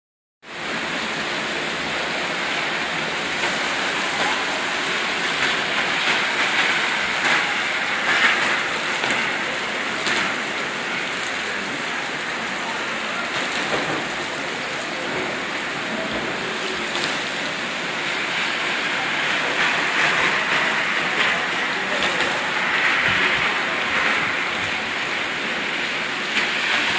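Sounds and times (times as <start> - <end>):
heavy rain on pavement: 0.4 - 26.9.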